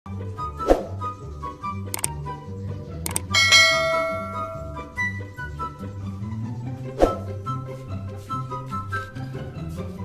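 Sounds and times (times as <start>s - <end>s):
light comic music: 0.1s - 10.0s.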